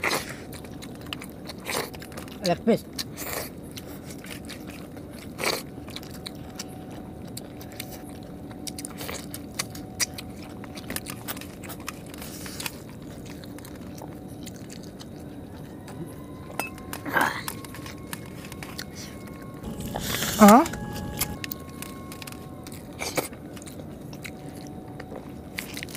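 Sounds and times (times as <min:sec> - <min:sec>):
people chewing: 0:00.0 - 0:25.9
faint hum: 0:05.1 - 0:25.9.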